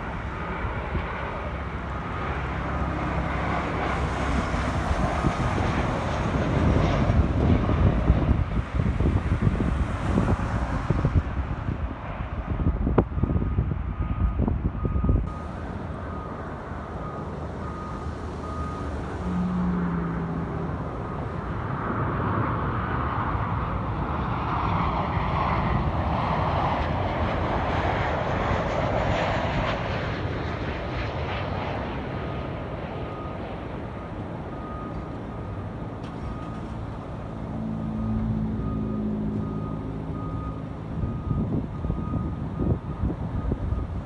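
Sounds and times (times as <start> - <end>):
jet airliner passing: 0.0 - 44.0.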